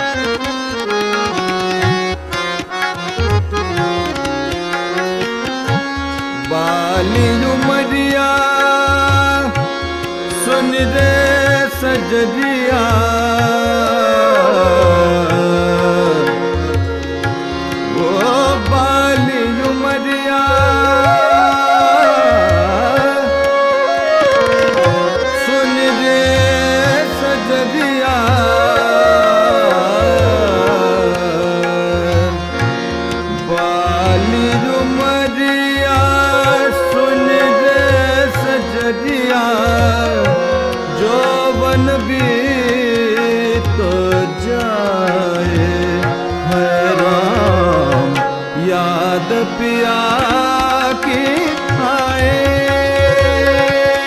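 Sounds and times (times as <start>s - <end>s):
harmonium: 0.0s - 54.0s
man singing: 4.0s - 54.0s.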